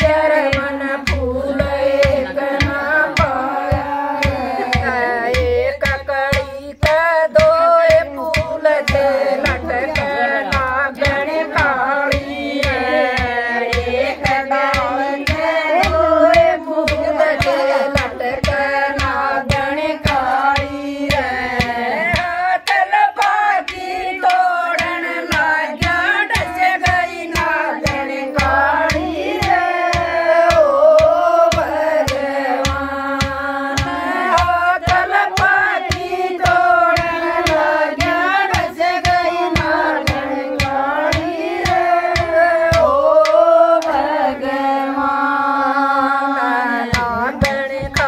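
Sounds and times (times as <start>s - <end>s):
hand drumming on clay pot: 0.0s - 45.6s, 46.3s - 48.0s
women singing together: 0.0s - 48.0s.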